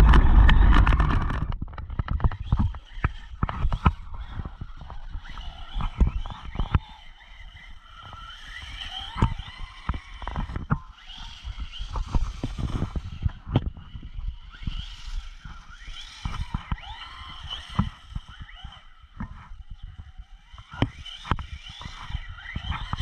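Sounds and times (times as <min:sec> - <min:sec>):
electric motor whining: 0:00.0 - 0:23.0
low thumps and rumble: 0:00.0 - 0:23.0.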